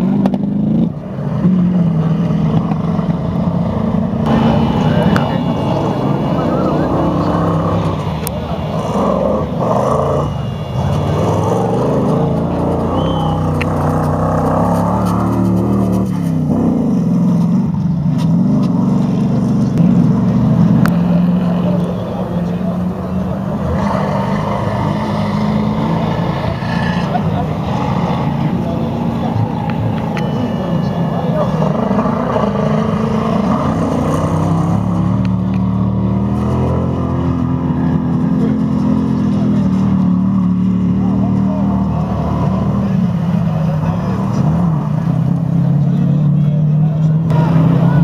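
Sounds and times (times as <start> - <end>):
racing engines revving: 0.0 - 48.0.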